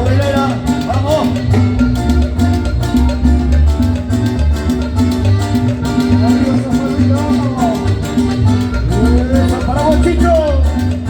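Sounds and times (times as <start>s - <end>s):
latin dance band playing: 0.0s - 11.0s.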